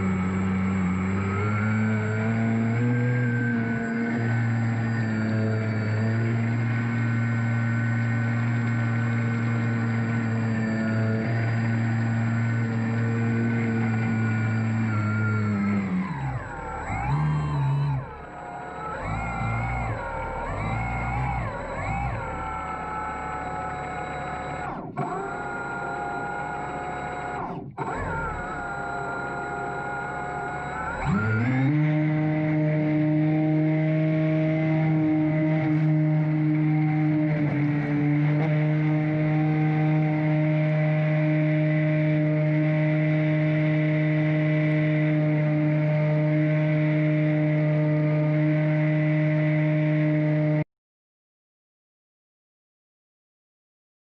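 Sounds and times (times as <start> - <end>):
small electric motor whining: 0.0 - 50.6.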